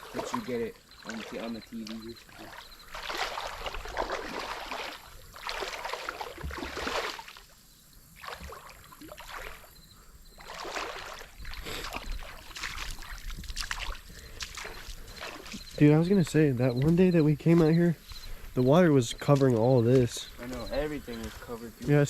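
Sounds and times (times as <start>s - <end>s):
river water sloshing: 0.0s - 22.0s.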